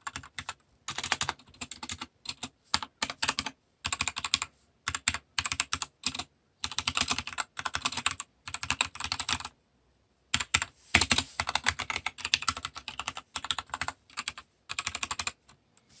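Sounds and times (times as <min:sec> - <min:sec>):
mechanical keyboard typing: 0:00.0 - 0:09.5, 0:10.3 - 0:15.5.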